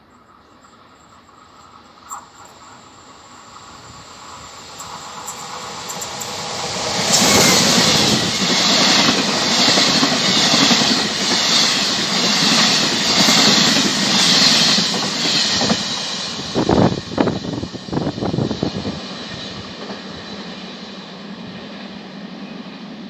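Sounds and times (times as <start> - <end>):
train passing at speed: 0.0 - 23.0.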